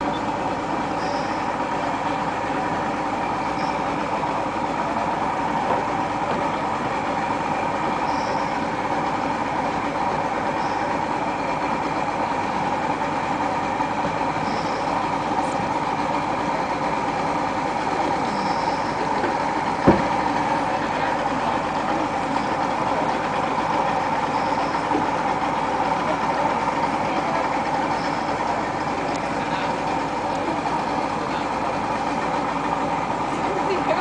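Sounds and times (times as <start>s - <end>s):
engine hum: 0.0s - 34.0s.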